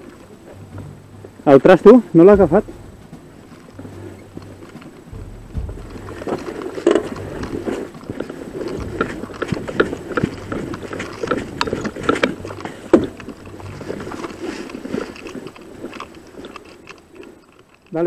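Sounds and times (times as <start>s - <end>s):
footsteps on dry grass: 0.0s - 17.4s
clothing and gear rustling: 0.0s - 18.0s.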